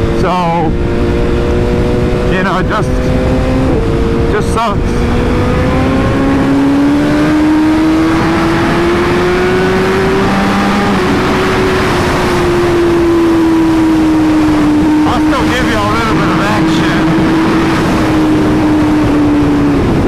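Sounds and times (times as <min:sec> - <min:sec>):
motorcycle engine running: 0:00.0 - 0:20.0
wind rushing: 0:00.0 - 0:20.0.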